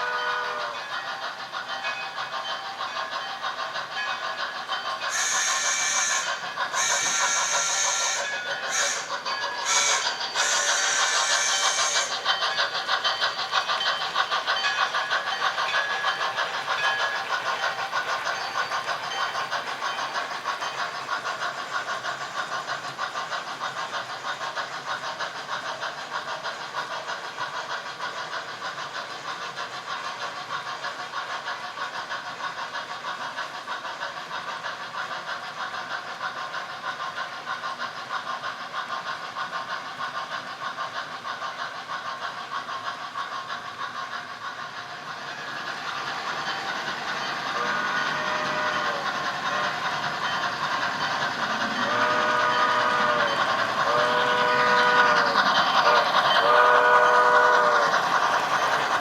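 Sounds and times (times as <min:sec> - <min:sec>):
model steam locomotive chuffing: 0:00.0 - 0:59.0.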